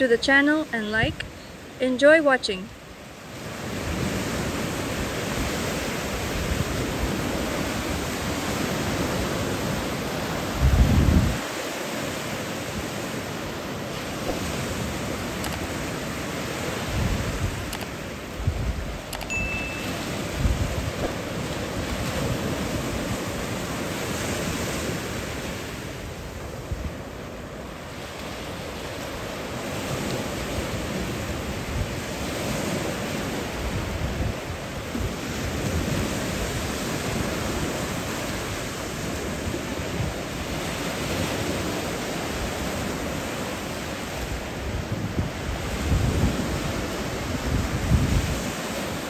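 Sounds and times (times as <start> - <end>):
small waves breaking on beach: 1.2 - 49.0
wind buffeting microphone: 3.4 - 19.2, 20.0 - 28.9, 29.5 - 49.0.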